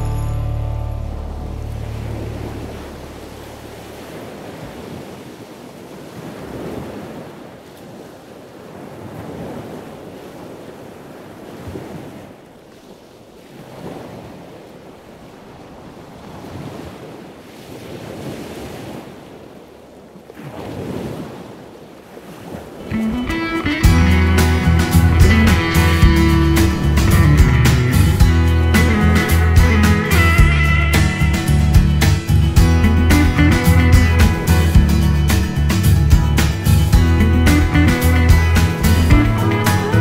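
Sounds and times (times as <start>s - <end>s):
sea waves washing in: 0.0s - 40.0s
wind: 0.0s - 40.0s.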